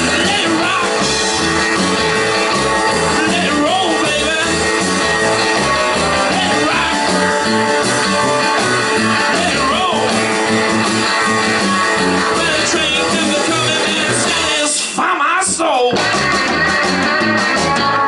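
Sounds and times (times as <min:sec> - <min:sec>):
pulsing bass line: 0:00.0 - 0:14.7, 0:16.0 - 0:18.0
guitar: 0:00.0 - 0:18.0
live rock band playing: 0:00.0 - 0:18.0.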